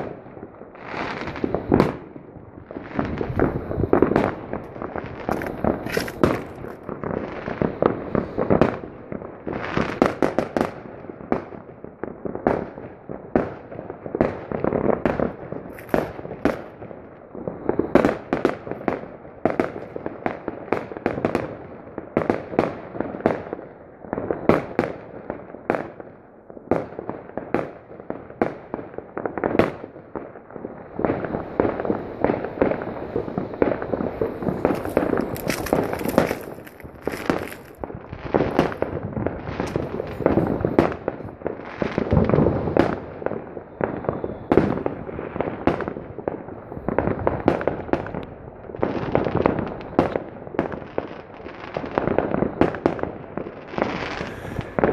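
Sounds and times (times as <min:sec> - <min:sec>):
rumble of distant explosions: 0:00.0 - 0:19.8, 0:29.2 - 0:50.8, 0:52.0 - 0:54.9
fireworks and firecrackers banging: 0:00.0 - 0:54.9.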